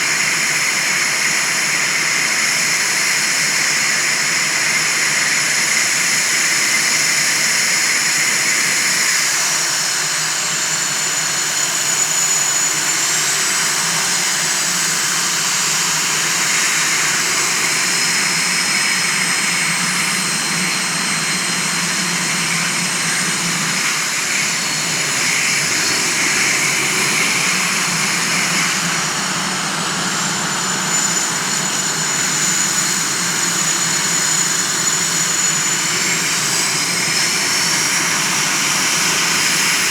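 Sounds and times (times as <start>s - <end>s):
jet engines whining: 4.2s - 39.9s.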